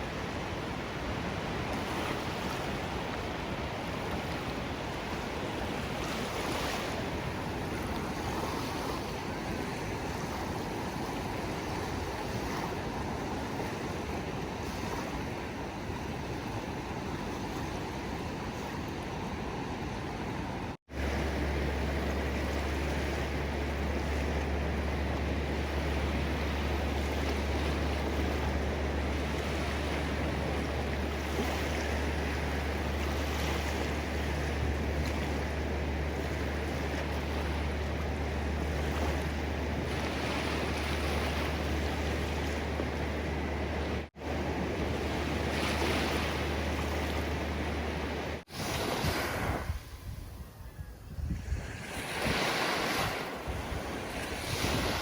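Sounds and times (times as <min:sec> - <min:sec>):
ocean surf washing: 0:00.0 - 0:55.0
wind rumble on microphone: 0:00.0 - 0:55.0.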